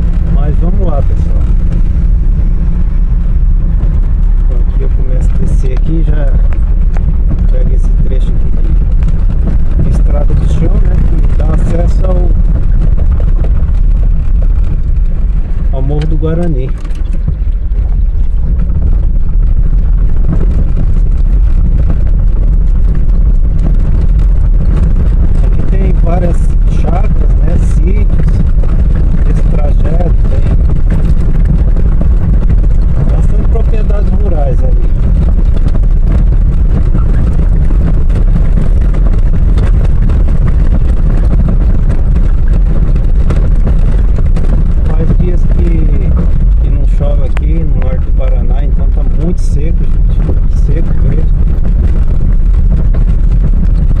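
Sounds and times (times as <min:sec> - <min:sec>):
stones ticking under wheels: 0:00.0 - 0:54.0
tyres rumbling on gravel: 0:00.0 - 0:54.0.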